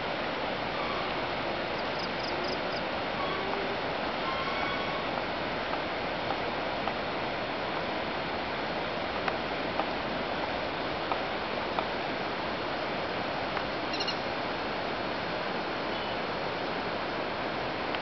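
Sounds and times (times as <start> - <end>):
rushing outdoor noise: 0.0 - 18.0.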